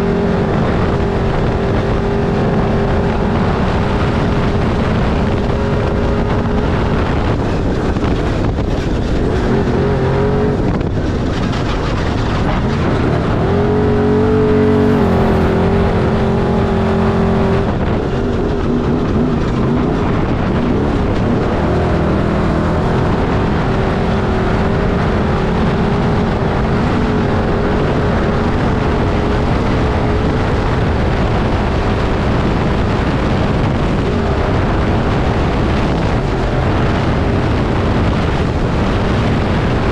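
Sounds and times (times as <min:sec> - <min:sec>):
race vehicle engine revving: 0:00.0 - 0:39.9.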